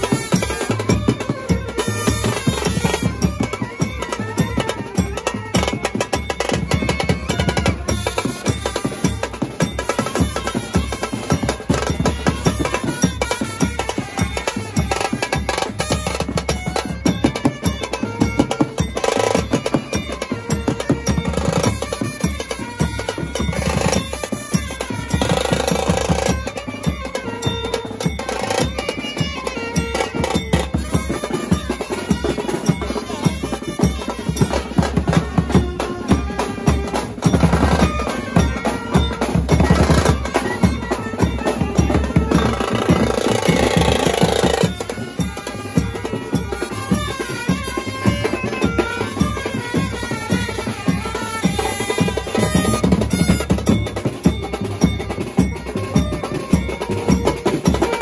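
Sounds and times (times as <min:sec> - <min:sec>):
brass band playing: 0:00.0 - 0:54.3
drums: 0:00.0 - 0:58.0.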